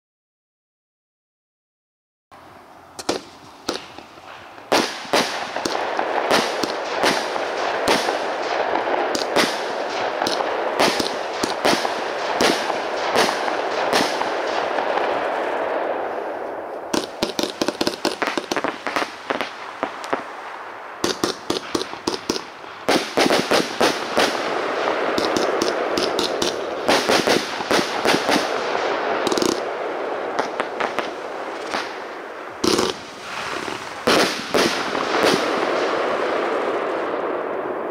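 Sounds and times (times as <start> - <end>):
firework hiss: 3.0 - 37.2
firework shots: 3.0 - 37.9.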